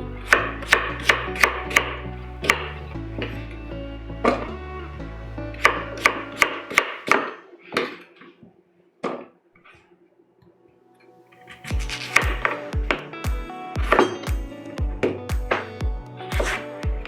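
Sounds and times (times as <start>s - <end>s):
background music: 0.0s - 7.7s, 10.0s - 17.0s.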